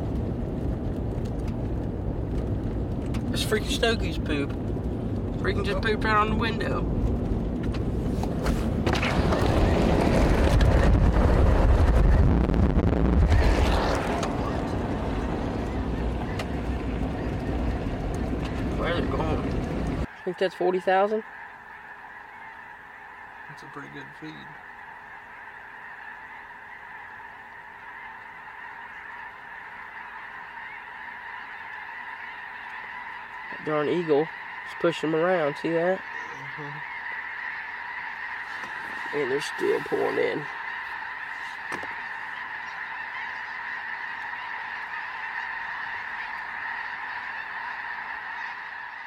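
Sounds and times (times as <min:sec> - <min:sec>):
flock of geese honking: 0:03.4 - 0:49.0.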